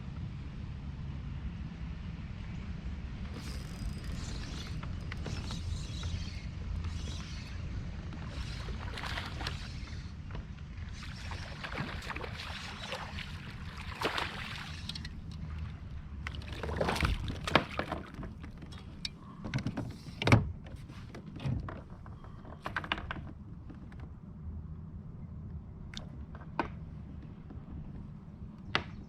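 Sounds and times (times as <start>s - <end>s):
low rumble of water and wind: 0.0s - 29.0s
knocks and clicks against hull: 3.3s - 24.3s, 25.5s - 29.0s.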